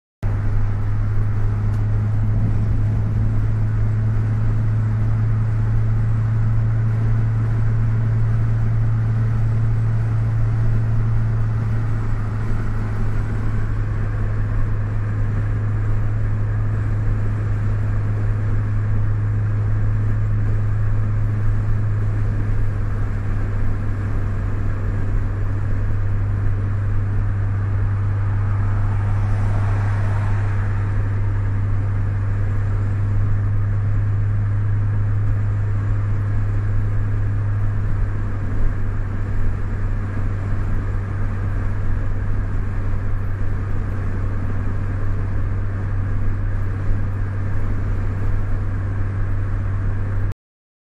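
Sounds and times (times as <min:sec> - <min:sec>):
car cabin noise: 0:00.2 - 0:50.3
constant low drone: 0:00.2 - 0:50.3.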